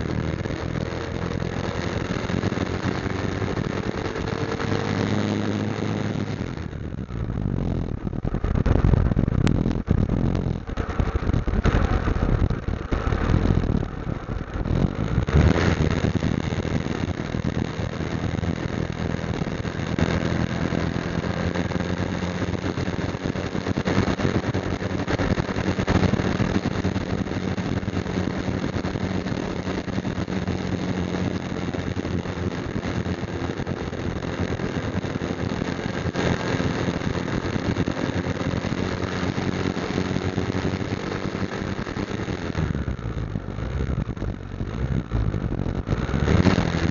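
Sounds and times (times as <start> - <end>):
motorcycle engine running: 0.0 - 46.9
road noise: 0.0 - 46.9.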